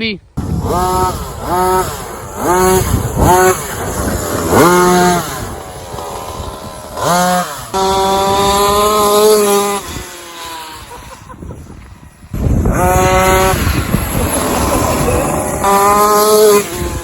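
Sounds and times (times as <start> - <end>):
small two-stroke engine revving: 0.4 - 17.0.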